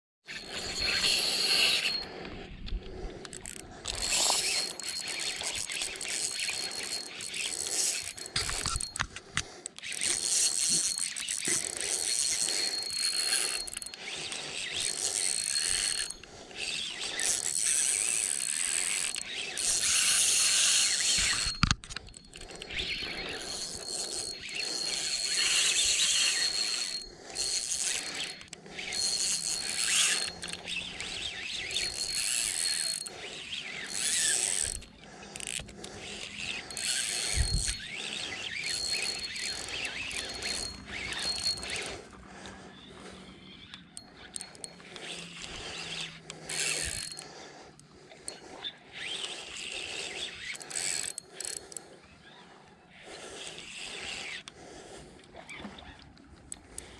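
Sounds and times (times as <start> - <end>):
fishing reel ratcheting: 0.2 - 56.9.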